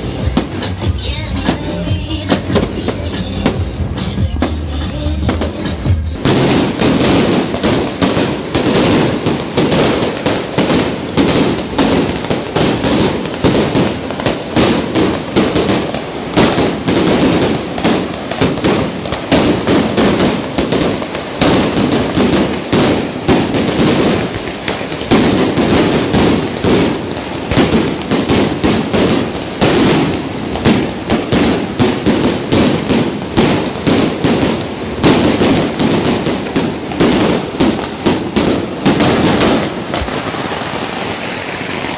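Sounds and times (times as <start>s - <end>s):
firecrackers crackling: 0.0s - 41.9s.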